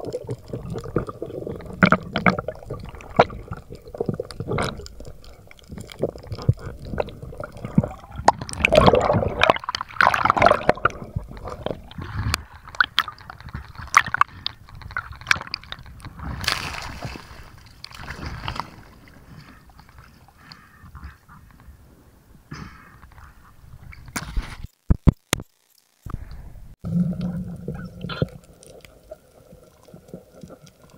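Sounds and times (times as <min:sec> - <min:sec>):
water sloshing and gurgling: 0:00.0 - 0:21.3, 0:26.8 - 0:30.9.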